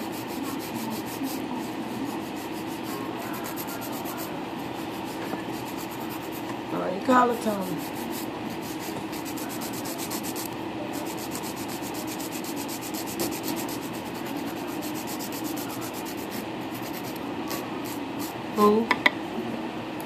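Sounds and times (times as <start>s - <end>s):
nail file rasping: 0.0s - 4.3s, 4.9s - 6.4s, 7.6s - 18.4s.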